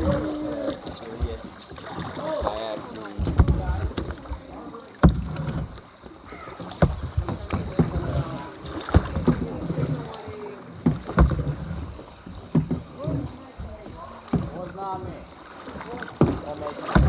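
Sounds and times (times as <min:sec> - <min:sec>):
low rumble of water: 0:00.0 - 0:17.0
paddle knocks: 0:00.0 - 0:17.0.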